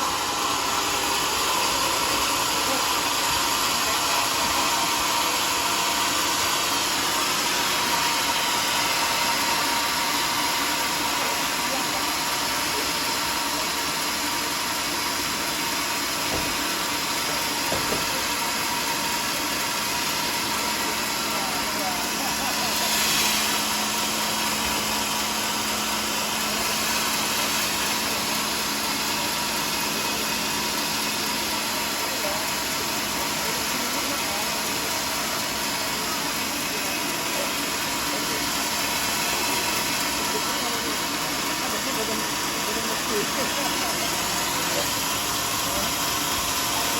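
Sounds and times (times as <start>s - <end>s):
bandsaw sawmill running: 0.0s - 46.9s.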